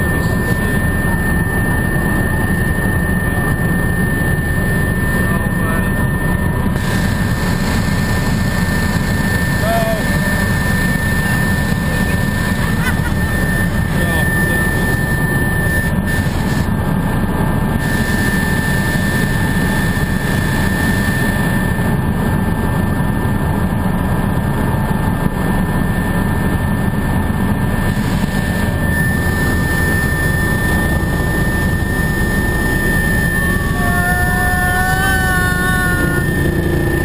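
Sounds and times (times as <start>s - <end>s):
high whine: 0.0s - 22.2s, 26.2s - 37.0s
helicopter engine and rotors drone: 0.0s - 37.0s.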